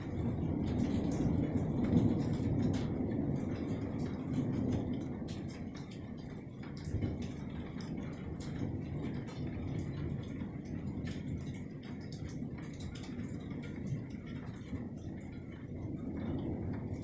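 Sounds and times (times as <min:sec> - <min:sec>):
low thunder rumble: 0:00.0 - 0:17.0
raindrops ticking: 0:00.0 - 0:17.0.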